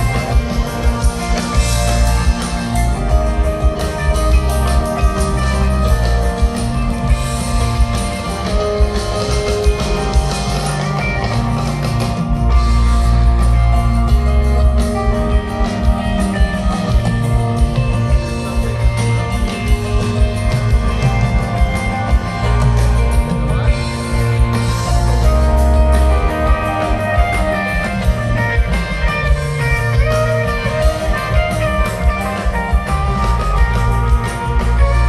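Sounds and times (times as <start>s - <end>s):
drum kit: 0.0s - 35.0s
electric guitar playing: 0.0s - 35.0s.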